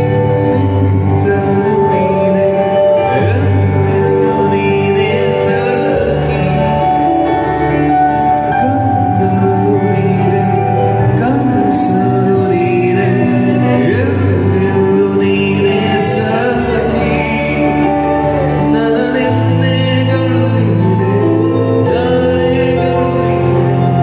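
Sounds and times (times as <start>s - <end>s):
electronic keyboard accompaniment: 0.0s - 24.0s
man singing into microphone: 0.0s - 24.0s.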